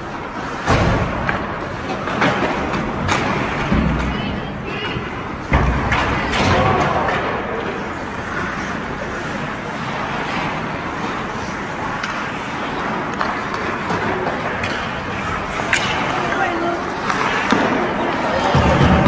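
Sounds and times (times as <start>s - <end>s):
steady rink noise: 0.0s - 19.0s
voices of spectators and players: 0.0s - 19.0s.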